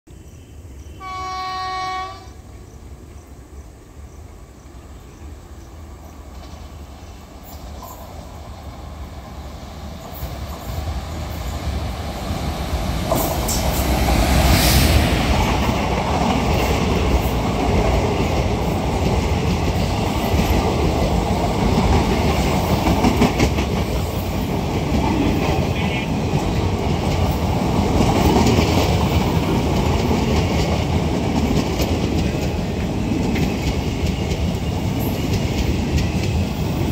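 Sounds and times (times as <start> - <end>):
train passing at speed: 0.1 - 36.9
wheels clickety-clack on rail joints: 4.2 - 36.9.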